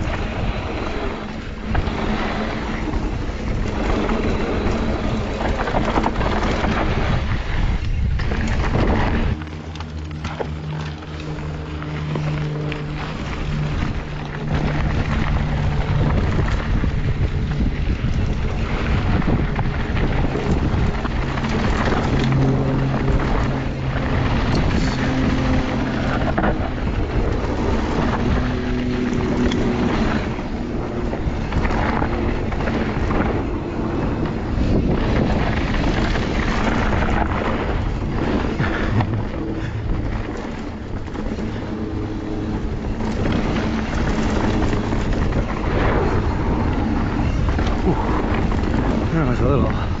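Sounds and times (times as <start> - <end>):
bike rattling over bumps: 0.0 - 50.0
tyres rolling over dirt: 0.0 - 50.0
wind on microphone: 0.0 - 50.0.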